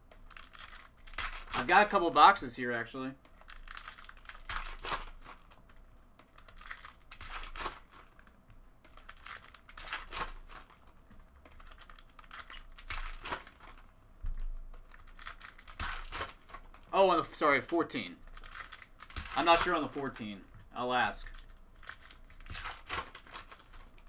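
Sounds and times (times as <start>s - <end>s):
cards rustling and snapping: 0.1s - 2.3s, 3.2s - 16.9s, 18.2s - 24.0s
wrappers crinkling: 0.2s - 2.4s, 3.3s - 17.0s, 18.1s - 24.0s.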